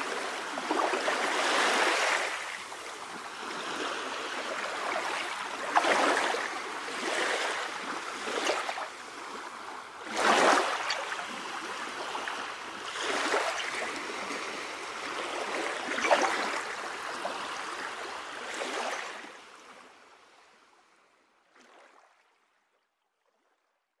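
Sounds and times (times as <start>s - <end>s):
sea waves washing in: 0.0s - 19.2s.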